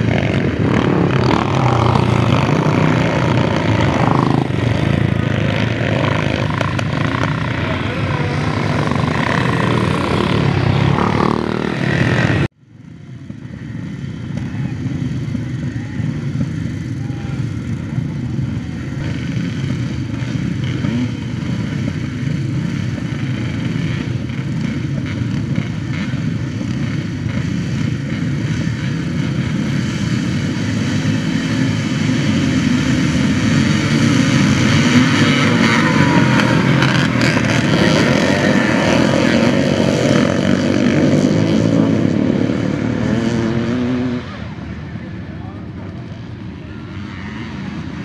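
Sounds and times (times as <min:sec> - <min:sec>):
motocross bikes revving: 0:00.0 - 0:48.0.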